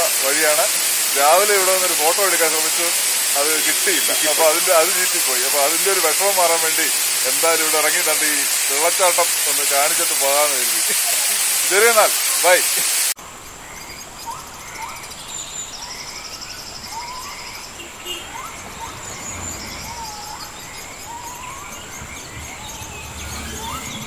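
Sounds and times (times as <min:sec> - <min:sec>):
birds chirping: 0:00.0 - 0:24.0
high-pitched insect whine: 0:00.0 - 0:24.0
rapid high insect trill: 0:00.0 - 0:24.0.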